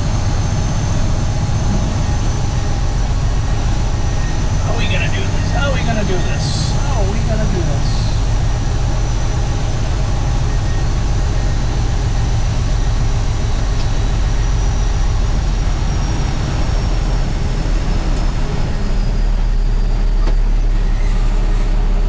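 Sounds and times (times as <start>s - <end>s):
truck diesel engine idling: 0.0s - 20.7s.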